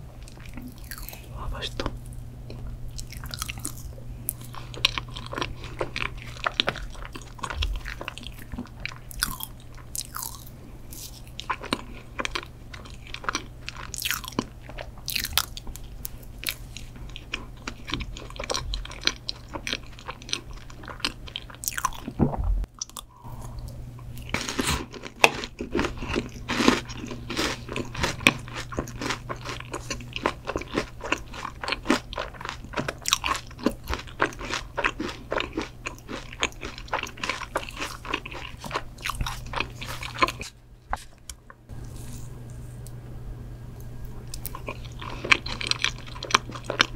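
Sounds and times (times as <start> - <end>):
faint low hum: 0.0 - 46.9
close-miked chewing: 0.1 - 22.1, 22.7 - 43.0, 43.8 - 46.9.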